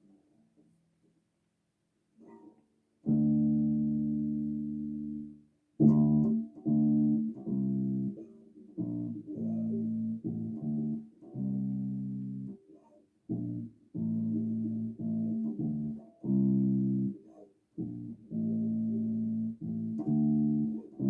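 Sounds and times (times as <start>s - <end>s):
electric bass guitar: 3.0s - 12.6s, 13.3s - 21.0s.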